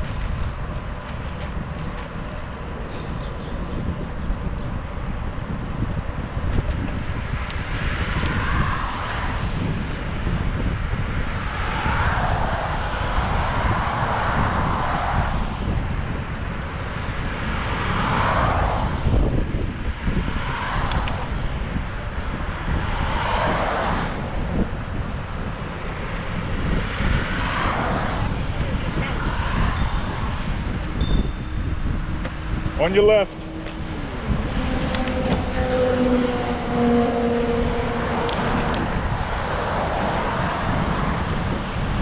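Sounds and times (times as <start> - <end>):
cars passing: 0.0 - 42.0
wind rumbling on microphone: 0.0 - 42.0.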